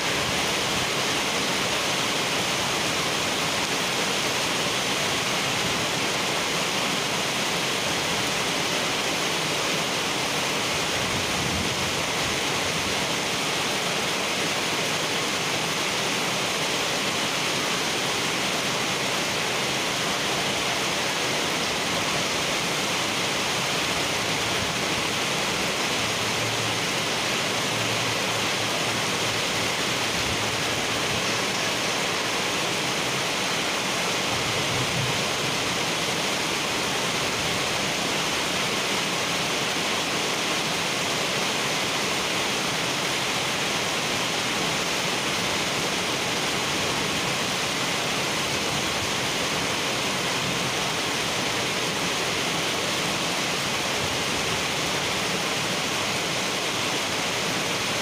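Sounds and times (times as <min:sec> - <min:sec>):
heavy rain on asphalt: 0:00.0 - 0:58.0.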